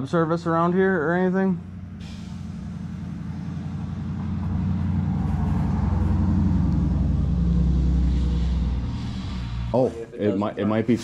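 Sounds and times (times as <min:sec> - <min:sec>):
low pulsing engine drone: 0:00.0 - 0:11.0.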